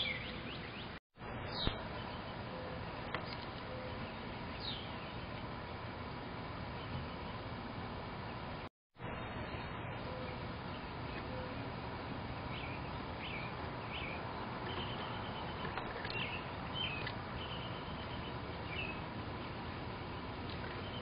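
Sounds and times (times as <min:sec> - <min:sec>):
small birds chirping and twittering: 0:00.0 - 0:21.0
steady outdoor hiss: 0:00.0 - 0:21.0.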